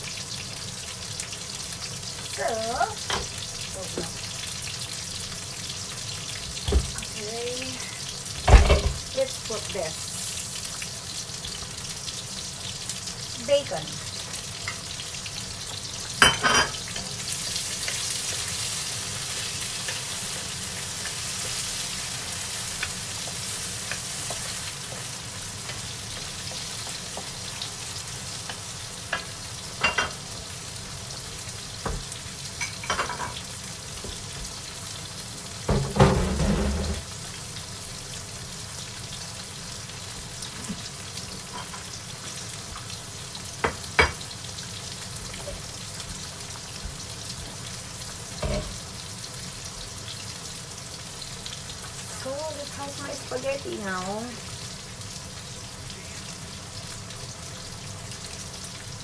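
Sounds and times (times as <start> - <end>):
bacon sizzling in a wok: 0.0 - 59.0.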